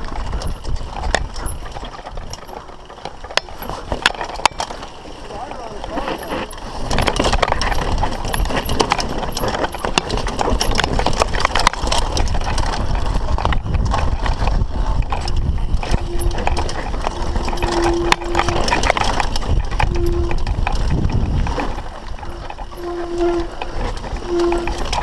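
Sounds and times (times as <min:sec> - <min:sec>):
wind on microphone: 0:00.0 - 0:02.4, 0:06.7 - 0:25.0
bike frame and chain rattling: 0:00.0 - 0:25.0
tyre rumble: 0:00.0 - 0:25.0.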